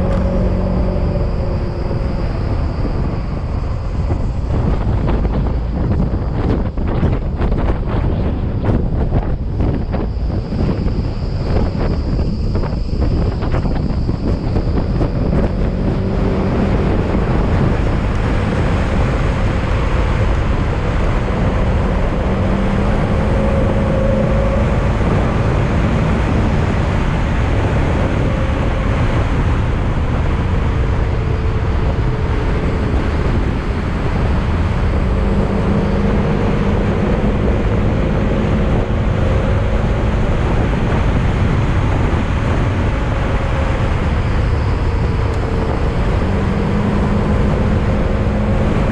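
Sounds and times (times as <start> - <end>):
scooter engine humming: 0.0 - 48.9
wind rush on microphone: 0.0 - 48.9.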